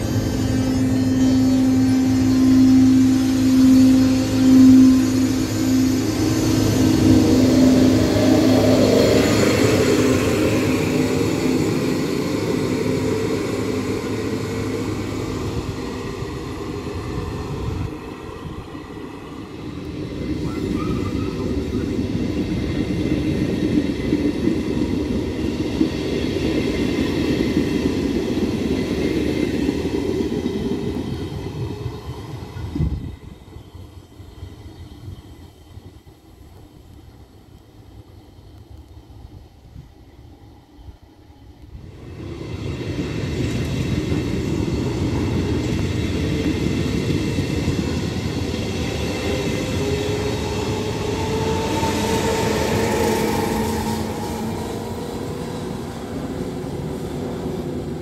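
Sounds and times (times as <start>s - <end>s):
electric train hum: 0.0s - 58.0s
train wheels rumbling: 0.0s - 58.0s.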